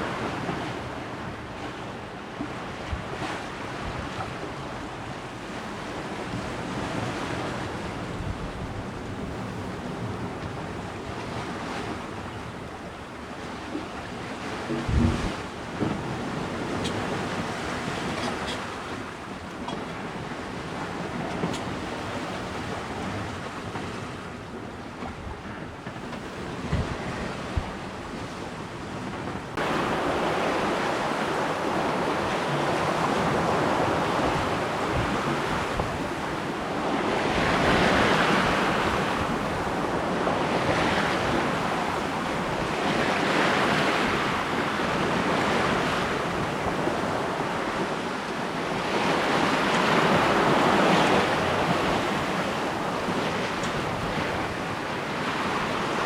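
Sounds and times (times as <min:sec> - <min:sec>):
waves splashing past a hull: 0:00.0 - 0:56.0
wind buffeting microphone: 0:05.7 - 0:56.0.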